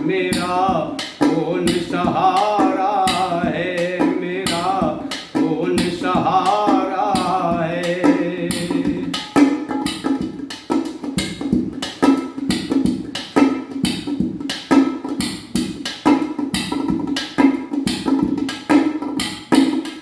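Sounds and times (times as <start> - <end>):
quick drum rhythm: 0.0 - 20.0.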